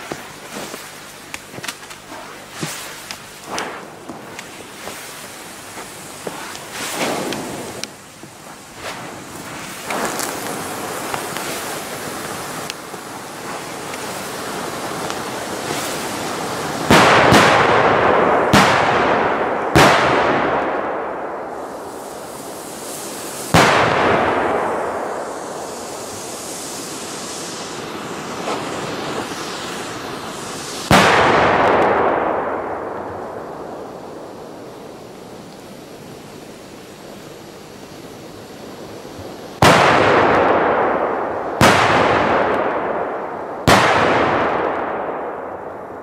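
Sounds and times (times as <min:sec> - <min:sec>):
firecracker bangs with echo: 0:02.5 - 0:08.0, 0:08.8 - 0:27.1, 0:27.8 - 0:34.7, 0:39.6 - 0:46.0.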